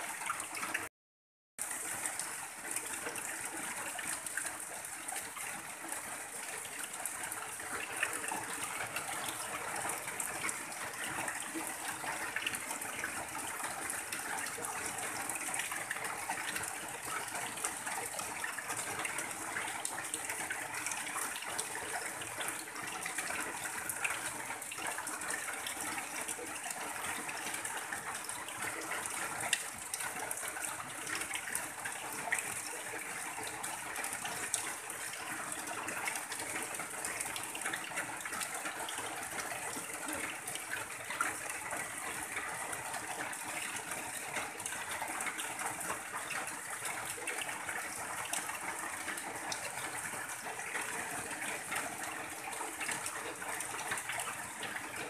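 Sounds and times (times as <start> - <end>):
rain on a tin roof: 0.0 - 0.9, 1.6 - 55.0
runoff pouring off roof: 1.6 - 55.0.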